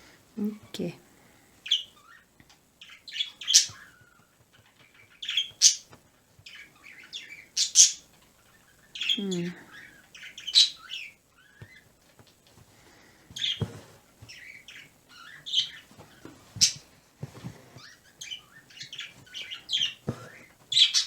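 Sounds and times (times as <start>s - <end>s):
pet birds chirping: 0.4s - 21.0s.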